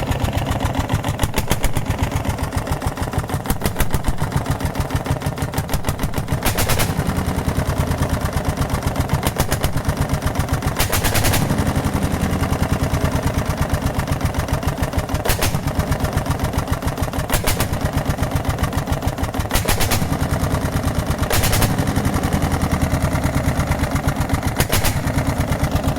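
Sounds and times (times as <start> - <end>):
engine firing in rapid loud beat: 0.0 - 25.9
sharp exhaust cracks: 0.0 - 25.9.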